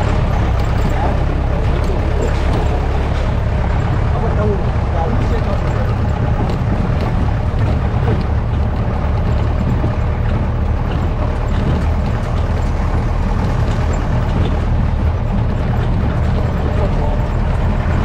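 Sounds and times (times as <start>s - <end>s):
off-road vehicle engine rumble: 0.0s - 18.0s.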